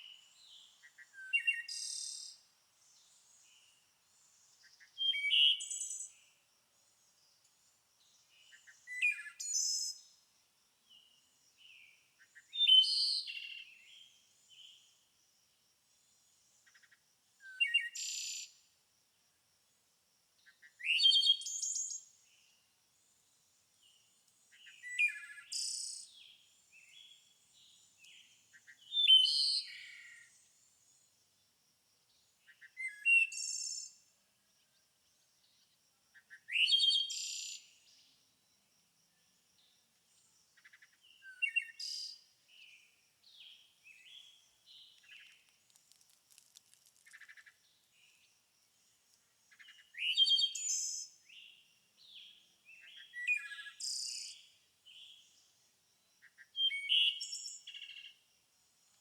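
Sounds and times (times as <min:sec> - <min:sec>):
songbird singing chirpy phrases: 0:00.0 - 0:15.1, 0:16.3 - 0:18.7, 0:20.4 - 0:31.1, 0:32.1 - 0:38.3, 0:39.0 - 0:58.2.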